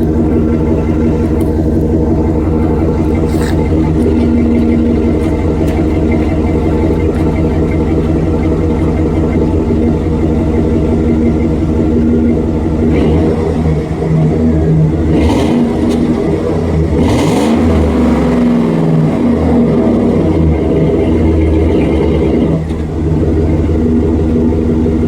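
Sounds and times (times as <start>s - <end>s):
van engine revving with loud exhaust: 0.0s - 25.0s.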